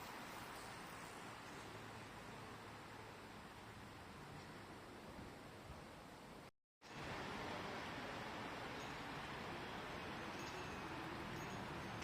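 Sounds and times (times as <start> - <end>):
faint outdoor background hiss: 0.0 - 12.0.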